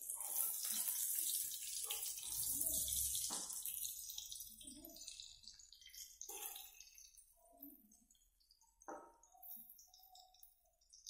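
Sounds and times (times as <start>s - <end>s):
oil sizzling in a wok: 0.0s - 11.0s.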